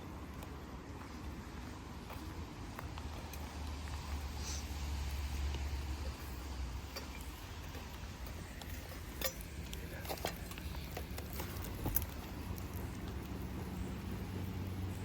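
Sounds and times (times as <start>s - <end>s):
low steady rumble: 0.0s - 15.0s
light cooking clicks and clinks: 2.8s - 15.0s.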